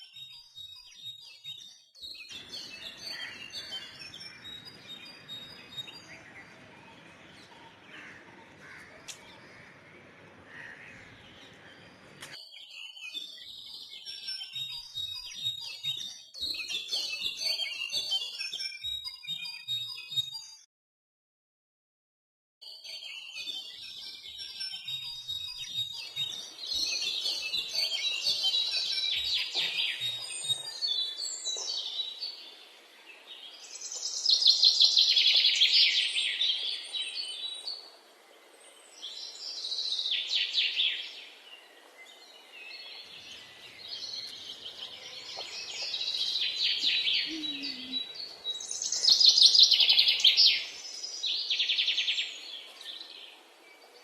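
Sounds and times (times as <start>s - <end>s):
small birds chirping: 0.0s - 20.6s, 23.0s - 54.0s.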